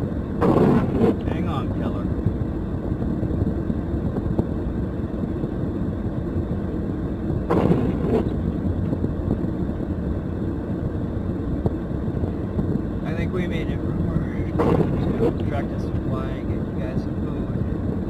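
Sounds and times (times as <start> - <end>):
low rumble inside car: 0.0 - 18.0.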